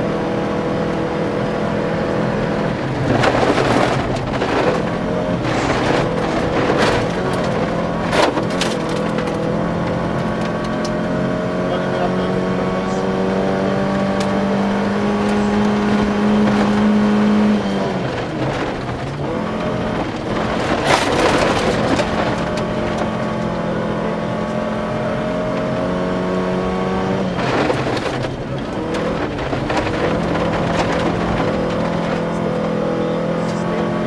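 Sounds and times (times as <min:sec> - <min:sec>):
car engine at high revs: 0:00.0 - 0:34.0
gravel and road noise: 0:00.0 - 0:34.0.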